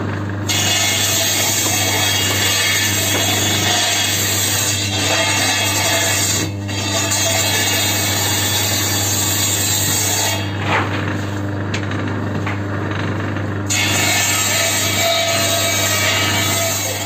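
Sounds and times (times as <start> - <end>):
circular saw motor running: 0.0 - 17.0
saw cutting wooden planks: 0.4 - 11.4, 13.7 - 17.0.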